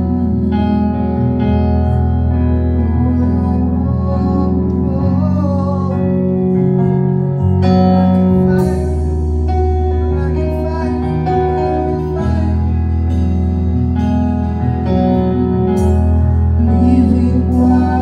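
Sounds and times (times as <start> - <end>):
held keyboard chords: 0.0 - 18.0
steady bass: 0.0 - 18.0.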